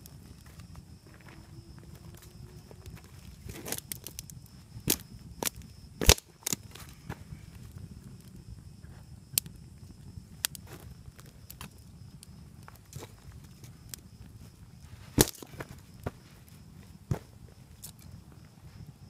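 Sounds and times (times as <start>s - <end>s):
campfire crackling and popping: 0.0s - 1.3s, 2.1s - 18.7s.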